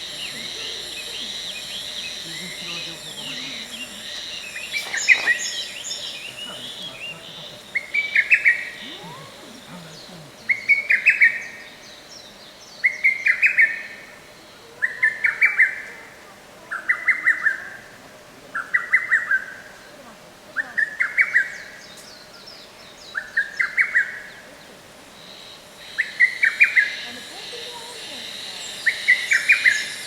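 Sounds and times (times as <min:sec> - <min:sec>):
other bird calls: 0:00.0 - 0:30.0.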